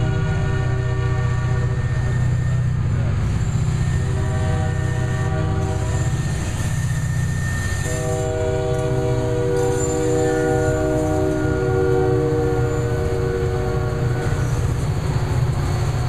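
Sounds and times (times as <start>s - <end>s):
locomotive horn blasts: 0.0s - 15.9s
diesel engines throbbing: 0.0s - 16.0s.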